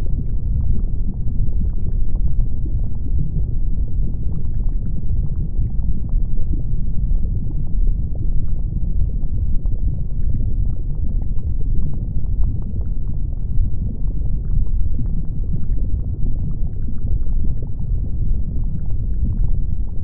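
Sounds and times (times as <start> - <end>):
deep volcanic rumble: 0.0 - 20.0
faint lava crackles: 0.0 - 20.0.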